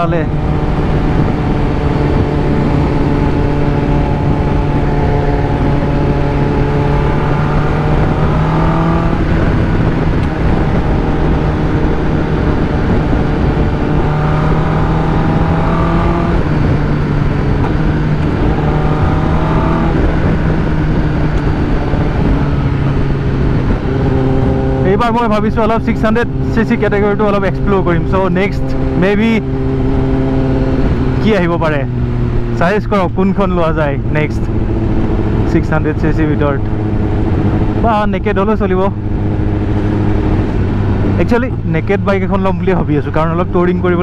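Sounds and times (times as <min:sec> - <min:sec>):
motorcycle engine cruising: 0:00.0 - 0:44.0
wind rushing over microphone: 0:00.0 - 0:44.0.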